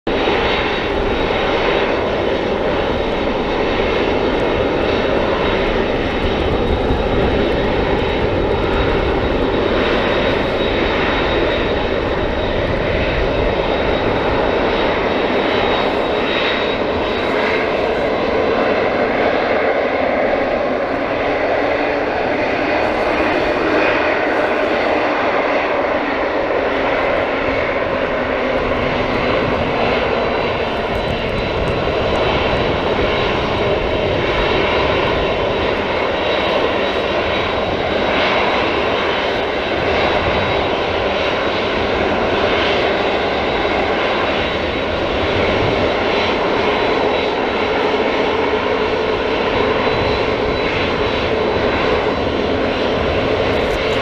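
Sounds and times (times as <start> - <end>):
jet engines rumbling: 0.0 - 54.0
high jet whine: 0.1 - 54.0.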